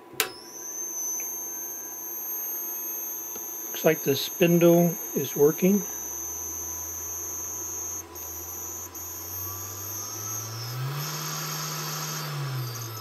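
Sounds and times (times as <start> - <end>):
spindle motor whining: 0.0 - 13.0.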